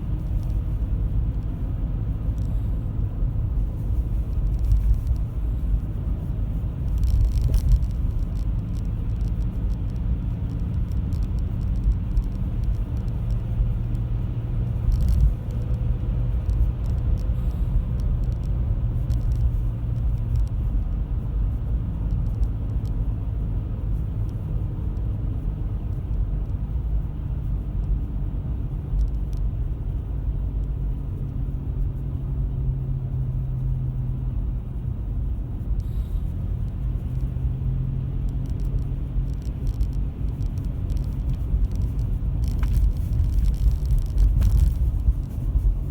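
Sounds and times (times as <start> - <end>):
road rumble: 0.0 - 45.9.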